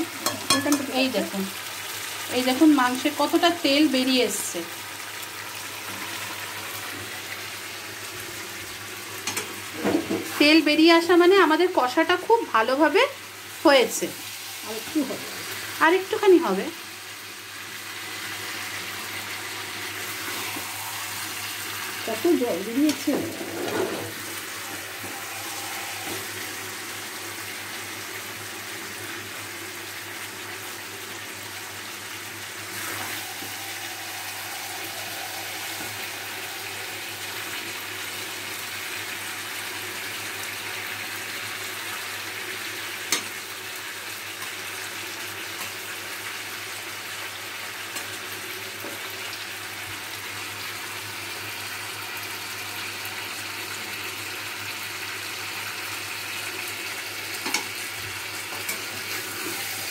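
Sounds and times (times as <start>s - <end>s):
curry sizzling in frying pan: 0.0s - 59.9s.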